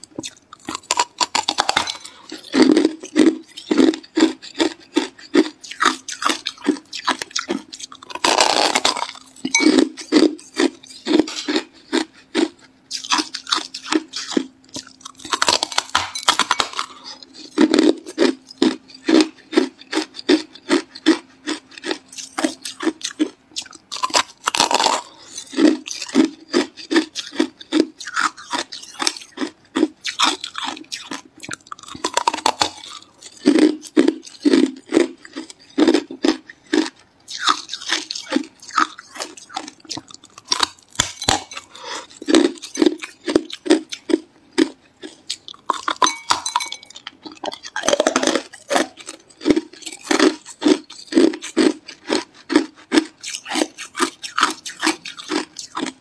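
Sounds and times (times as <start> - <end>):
person chewing ice crunching: 0.0 - 56.0.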